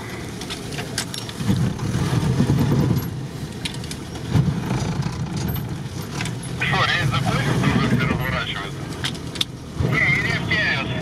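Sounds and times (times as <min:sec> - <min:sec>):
car engine running inside cab: 0:00.0 - 0:11.0.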